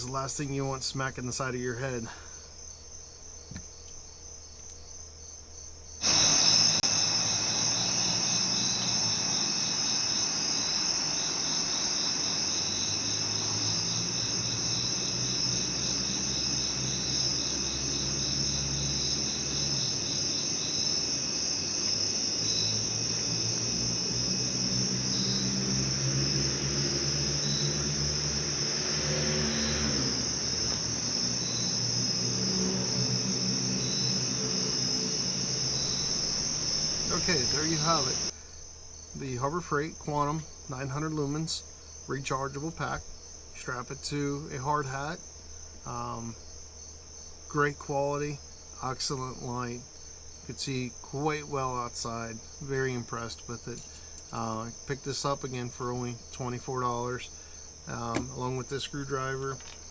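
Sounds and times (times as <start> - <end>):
crickets and insects chirping: 0.0 - 59.9
faint low hum: 0.0 - 59.9.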